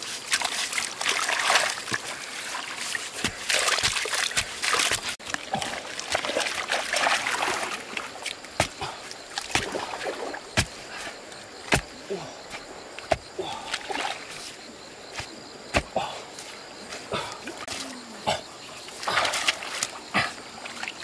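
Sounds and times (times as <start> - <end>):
hands churning wet mud: 0.0 - 21.0
muddy water splashing: 0.0 - 21.0.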